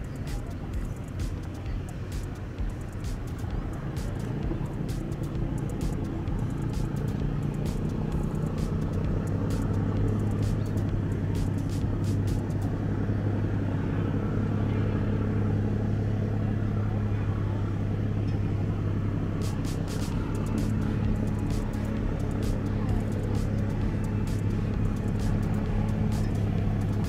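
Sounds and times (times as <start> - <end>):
ferry engines droning: 0.0 - 27.0.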